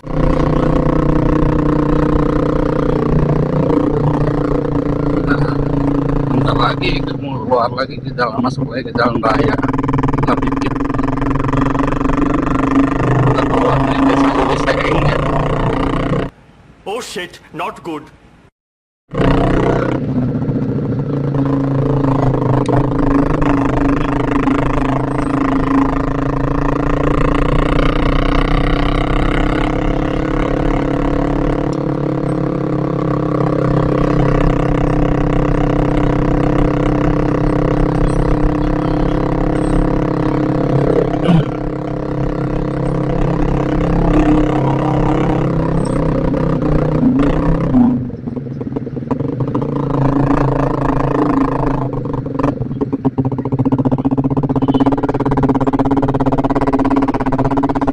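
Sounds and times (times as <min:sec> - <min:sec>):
motorcycle engine running: 0:00.0 - 0:16.4, 0:19.1 - 0:57.9.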